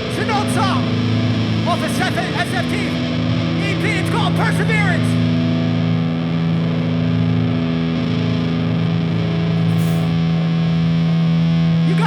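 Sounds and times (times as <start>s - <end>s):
distorted electric guitar chord: 0.0s - 12.0s.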